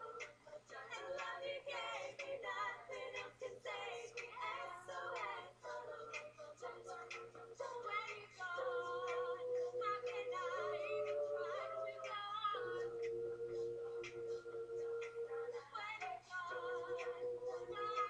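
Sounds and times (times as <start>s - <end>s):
female a cappella singing: 0.0s - 18.0s.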